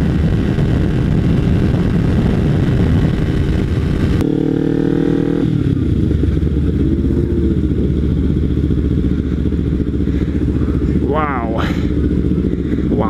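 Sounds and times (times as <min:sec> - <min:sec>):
motorcycle engine at speed: 0:00.0 - 0:13.0
wind rush on microphone: 0:00.0 - 0:13.0.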